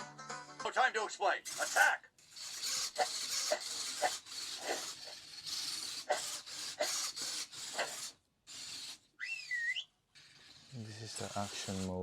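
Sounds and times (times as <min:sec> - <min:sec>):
robot servo motors whirring: 0:01.5 - 0:12.0.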